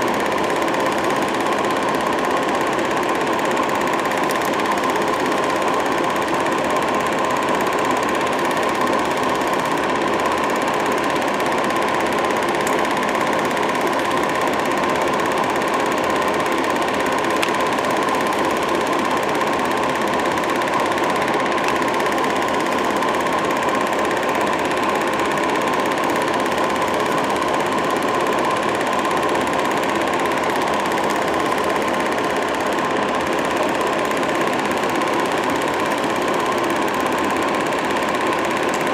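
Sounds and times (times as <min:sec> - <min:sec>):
film projector whirring clatter: 0:00.0 - 0:38.9.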